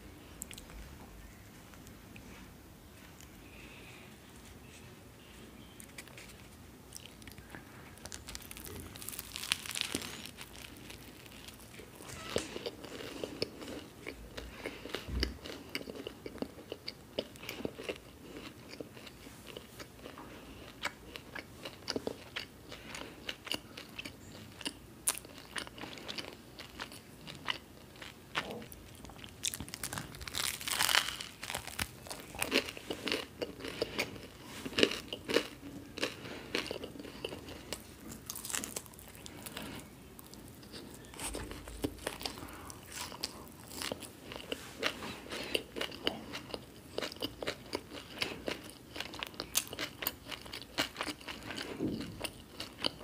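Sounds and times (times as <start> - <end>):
crunching and chewing: 5.6 - 53.0.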